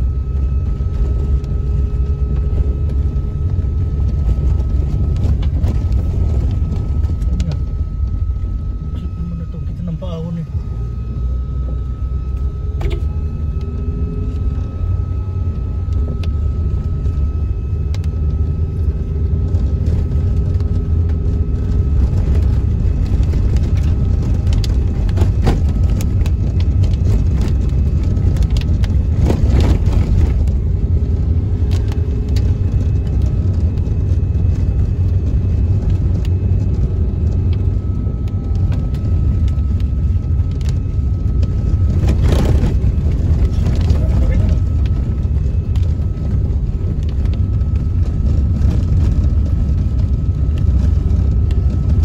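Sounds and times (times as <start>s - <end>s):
car engine and tyres rumbling: 0.0s - 52.0s
faint high whine: 0.0s - 52.0s.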